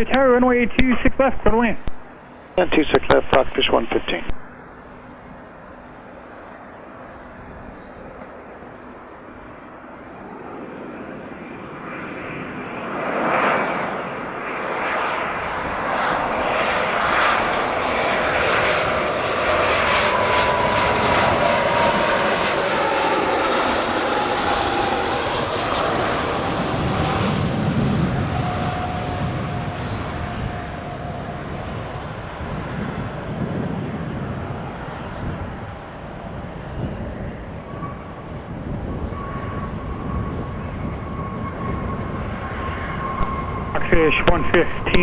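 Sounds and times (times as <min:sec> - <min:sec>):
jet engine whine: 0:00.0 - 0:45.0
jet engines roaring: 0:00.0 - 0:45.0.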